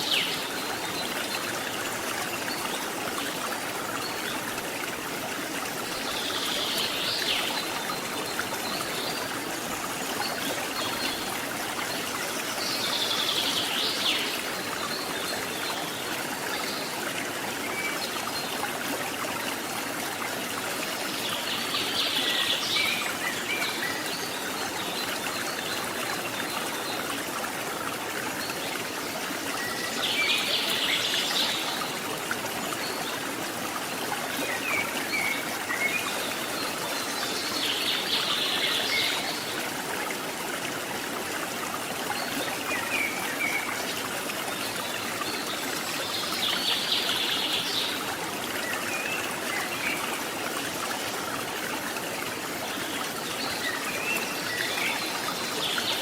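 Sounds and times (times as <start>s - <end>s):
rushing water of waterfall: 0.0s - 56.0s.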